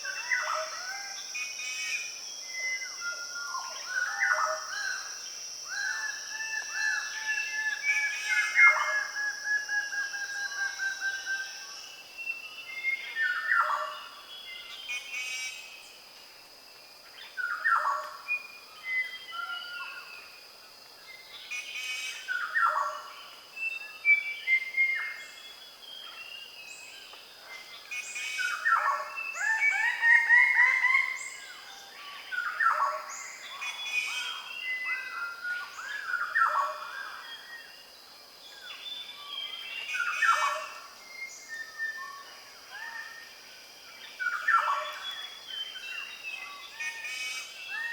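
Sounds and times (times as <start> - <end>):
many birds calling and singing: 0.0 - 16.0, 17.0 - 20.3, 20.9 - 37.9, 38.5 - 47.9.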